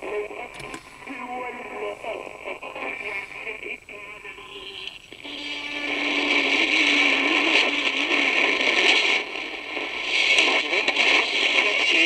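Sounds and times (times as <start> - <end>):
radio static and hiss: 0.0 - 12.0.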